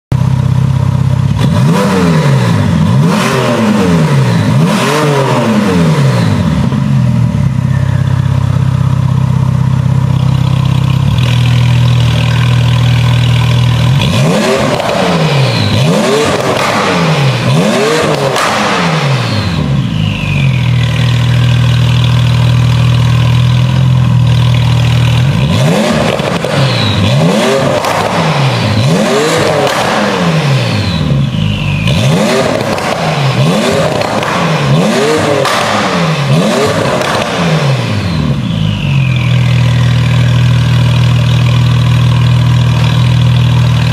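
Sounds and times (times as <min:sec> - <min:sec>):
car engine idling: 0:00.1 - 0:01.7, 0:05.6 - 0:43.9
car engine revving: 0:00.2 - 0:43.9.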